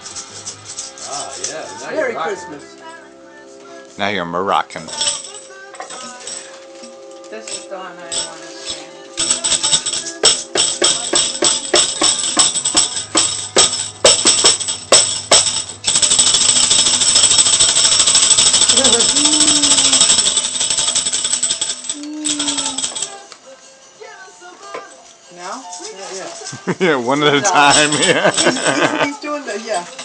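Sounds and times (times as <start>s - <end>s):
toy tambourine jingling: 0.0s - 2.3s, 4.9s - 30.0s.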